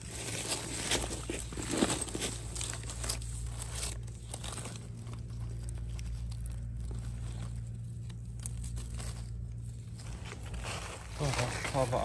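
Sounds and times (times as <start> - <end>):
dry leaves rustling: 0.0 - 12.0
steady low rumble: 0.0 - 12.0.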